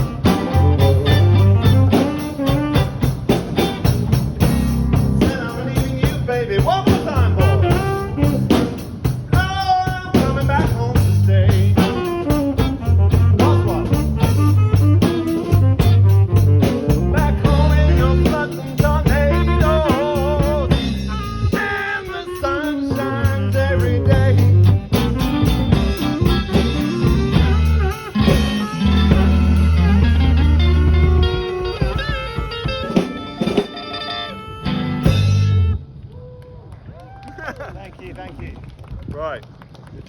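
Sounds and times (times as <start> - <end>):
drum kit beat: 0.0 - 35.7
blues lead guitar: 0.0 - 35.8
bass guitar: 0.0 - 35.9.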